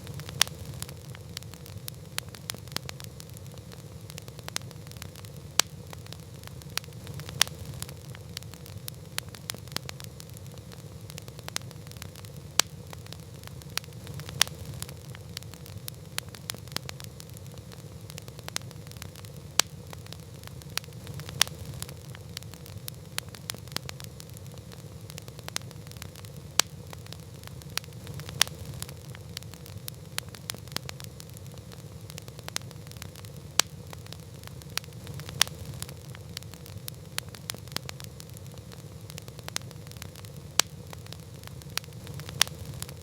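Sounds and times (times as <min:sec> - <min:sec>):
campfire crackling: 0:00.0 - 0:43.0
low rumble of burning fire: 0:00.0 - 0:43.0.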